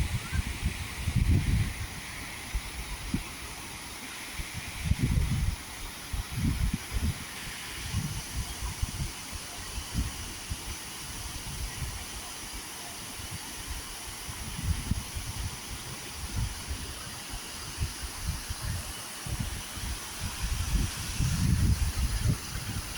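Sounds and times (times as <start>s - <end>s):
wind buffeting the microphone: 0.0s - 3.6s, 4.4s - 12.2s, 13.2s - 22.9s
steady hiss: 0.0s - 22.9s.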